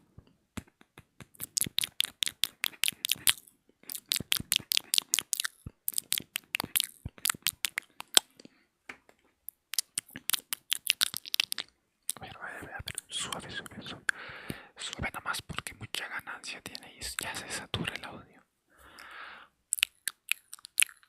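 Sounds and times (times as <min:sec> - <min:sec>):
tongue and lip clicks: 0:00.6 - 0:08.5, 0:09.5 - 0:18.1, 0:19.0 - 0:21.0.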